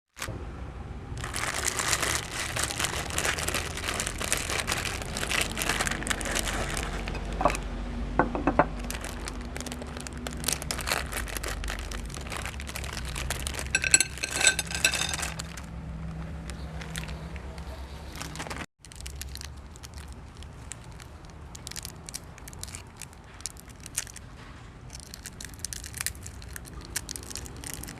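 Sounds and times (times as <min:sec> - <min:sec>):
hard candy crunching in grinder: 0:01.2 - 0:07.6, 0:08.5 - 0:15.7, 0:18.3 - 0:24.2, 0:25.0 - 0:27.9.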